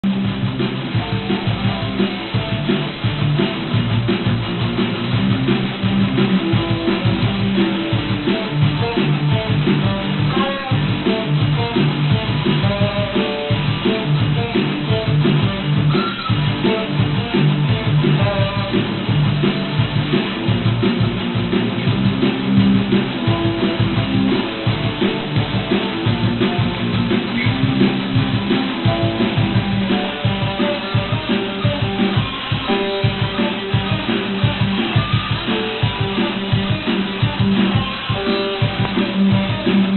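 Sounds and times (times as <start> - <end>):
guitar picked notes: 0.0 - 39.9.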